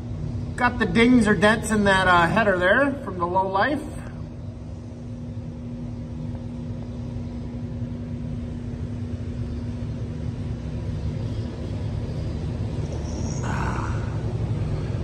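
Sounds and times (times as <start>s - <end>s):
low machinery rumble: 0.0s - 15.0s
steady hum: 0.0s - 15.0s.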